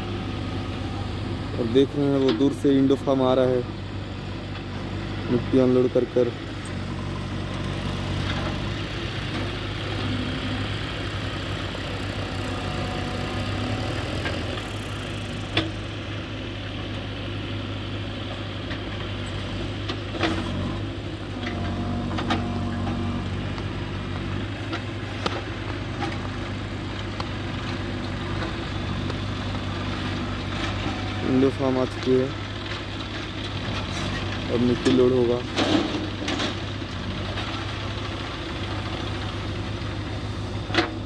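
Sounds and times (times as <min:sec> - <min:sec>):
backhoe loader diesel engine running: 0:00.0 - 0:41.0
tractor diesel engine running: 0:00.0 - 0:41.0.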